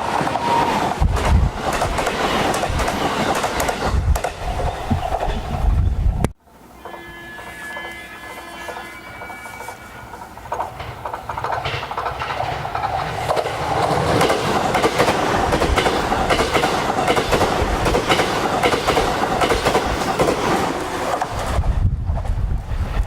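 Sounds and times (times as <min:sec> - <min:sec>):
train wheels clicking over rails: 0:00.0 - 0:05.8, 0:06.8 - 0:23.0.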